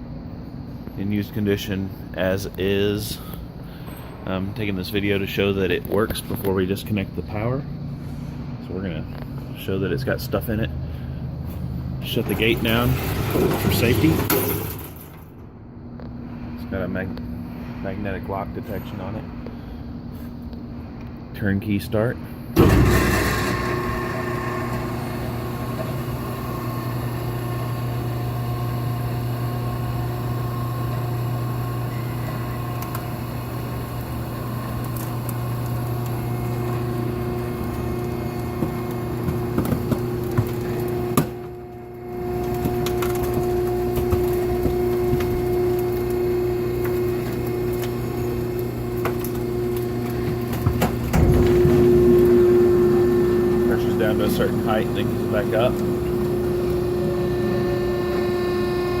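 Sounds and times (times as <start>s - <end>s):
hydraulic power unit humming: 0.0s - 59.0s.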